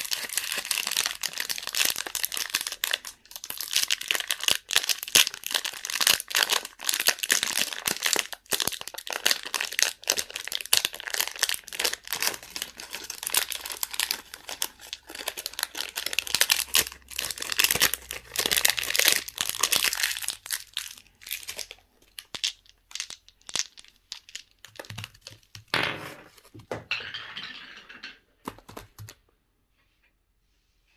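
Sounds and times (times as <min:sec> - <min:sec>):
candy wrappers crinkling: 0:00.0 - 0:25.7.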